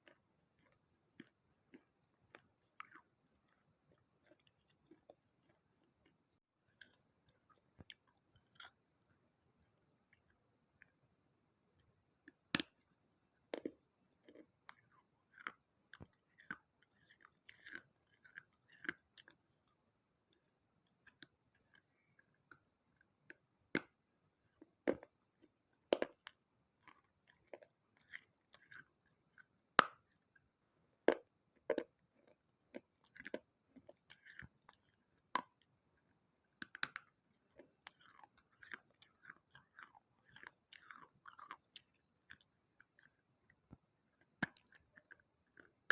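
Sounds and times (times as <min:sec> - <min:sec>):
chewing and crunching terracotta: 0:00.0 - 0:11.1, 0:11.8 - 0:45.9.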